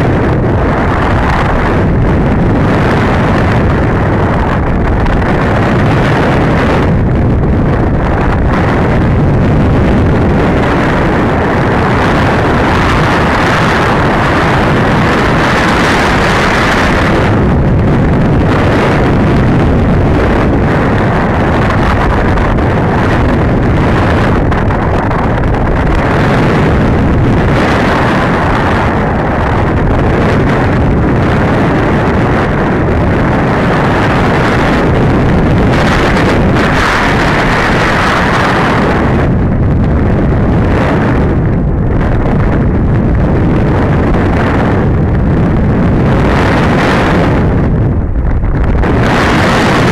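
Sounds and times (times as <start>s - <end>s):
wind rushing past microphone: 0.0s - 49.9s.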